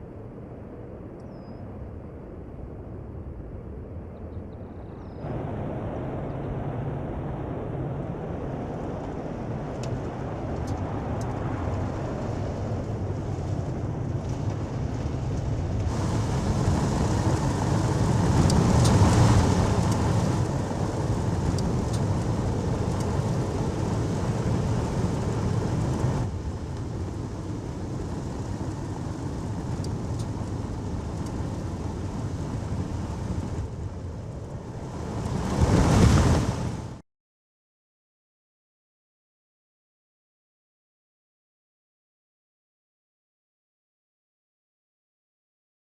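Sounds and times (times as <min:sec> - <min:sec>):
wind noise: 0:00.0 - 0:37.0.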